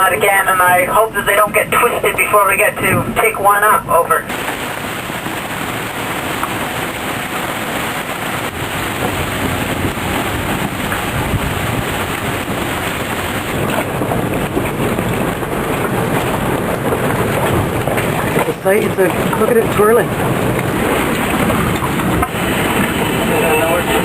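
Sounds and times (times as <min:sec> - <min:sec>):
rain: 0:00.0 - 0:24.0
storm wind: 0:00.0 - 0:24.0.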